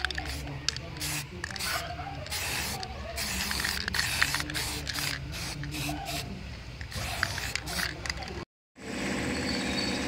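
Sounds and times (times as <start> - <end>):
spray can hissing: 0.0 - 8.2.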